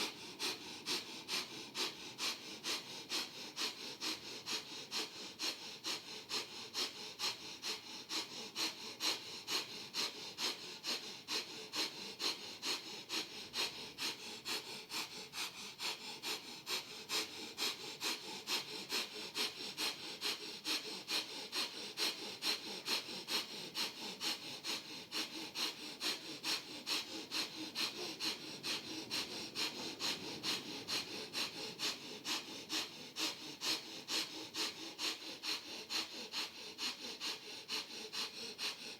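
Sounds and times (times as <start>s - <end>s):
rapid breathing through the nose: 0.0s - 38.9s.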